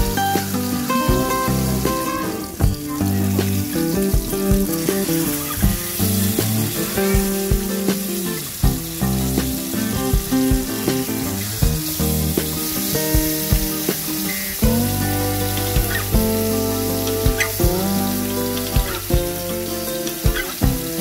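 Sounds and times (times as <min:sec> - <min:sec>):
background music: 0:00.0 - 0:21.0
fish sizzling in oil: 0:00.2 - 0:21.0.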